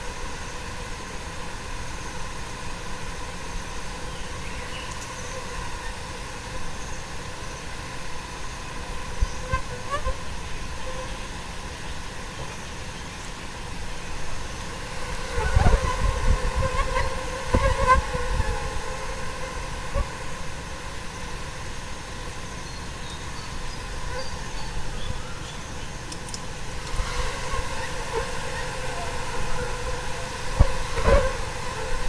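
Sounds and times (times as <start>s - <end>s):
fruit flies buzzing: 0.0s - 32.0s.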